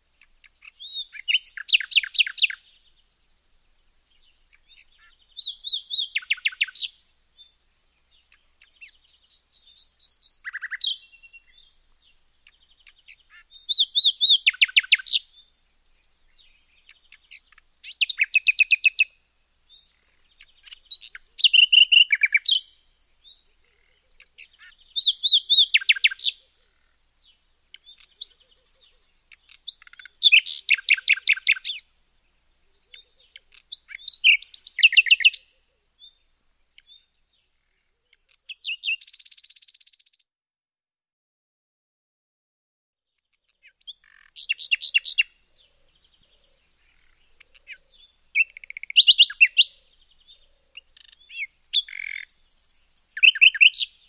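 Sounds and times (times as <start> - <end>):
bird singing: 0.0 - 40.2, 43.1 - 54.0.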